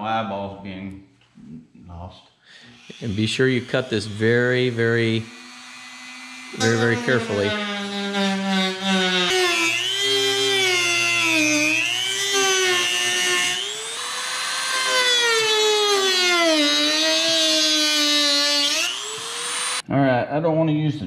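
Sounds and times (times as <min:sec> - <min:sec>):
rotary tool cutting whine: 0:02.8 - 0:19.8.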